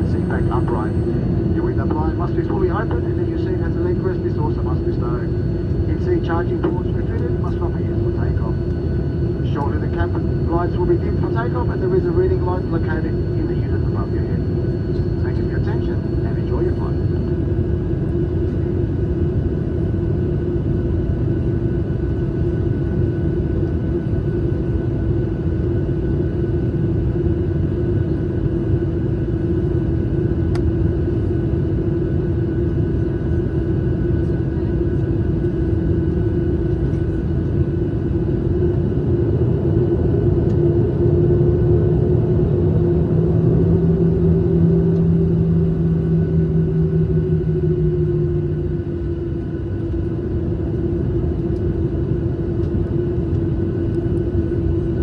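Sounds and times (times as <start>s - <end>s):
jet engines inside cabin: 0.0s - 55.0s.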